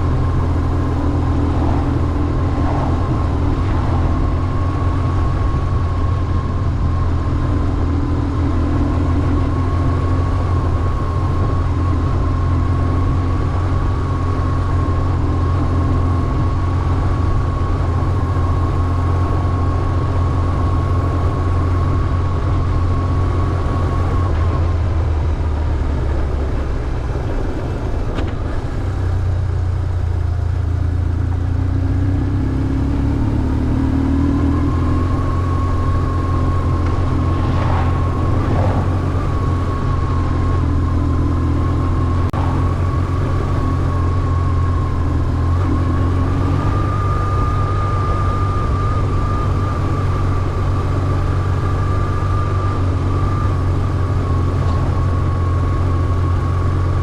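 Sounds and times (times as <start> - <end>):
thin steady whine: 0.0 - 31.9, 32.9 - 57.0
motorcycle engine running: 0.0 - 57.0.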